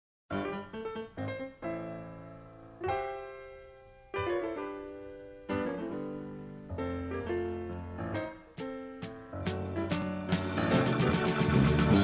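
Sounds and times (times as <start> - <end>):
keyboard chords ringing: 0.4 - 12.0.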